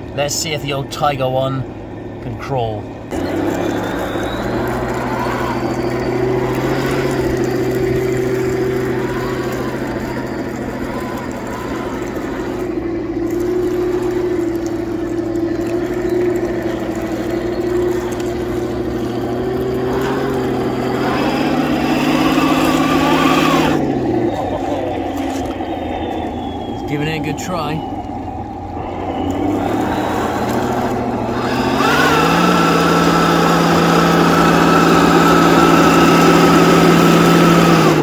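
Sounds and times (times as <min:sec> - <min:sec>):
electric motor and gears whirring: 0:00.0 - 0:38.0
simulated engine rumble from speaker: 0:00.0 - 0:38.0.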